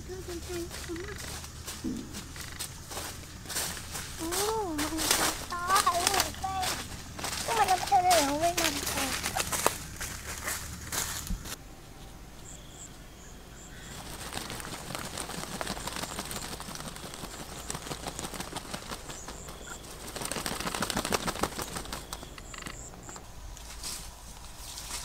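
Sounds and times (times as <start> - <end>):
ducks flapping wings: 0.0 - 11.6, 13.8 - 25.0.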